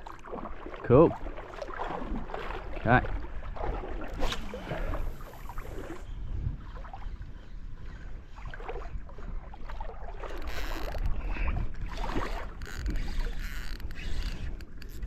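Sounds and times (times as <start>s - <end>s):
seawater sloshing and splashing: 0.0s - 15.0s
wind rumble on microphone: 0.0s - 15.0s.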